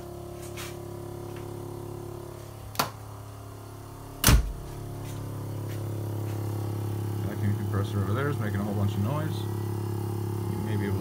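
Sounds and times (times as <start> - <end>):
electric vacuum compressor humming: 0.0 - 11.0.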